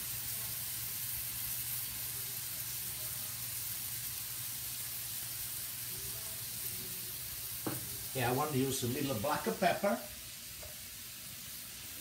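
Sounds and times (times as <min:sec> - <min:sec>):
peppers and onions sizzling in oil: 0:00.0 - 0:12.0.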